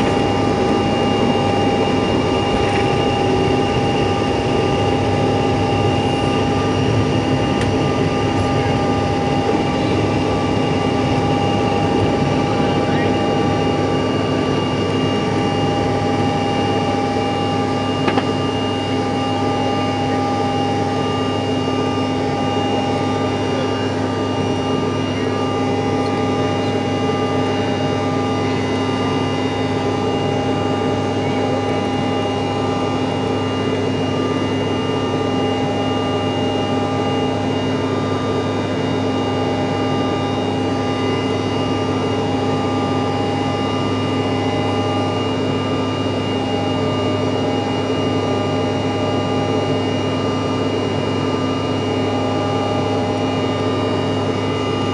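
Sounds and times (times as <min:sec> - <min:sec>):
jet engines running: 0:00.0 - 0:54.9
steady engine whines: 0:00.0 - 0:54.9.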